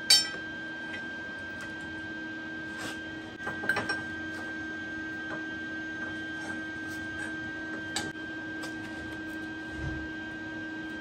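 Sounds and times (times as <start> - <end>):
two-tone machine hum: 0.0 - 11.0.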